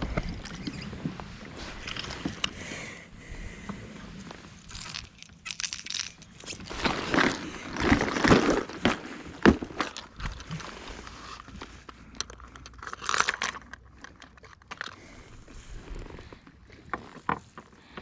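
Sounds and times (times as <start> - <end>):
fishing tackle rustling and clicking: 0.0 - 15.4.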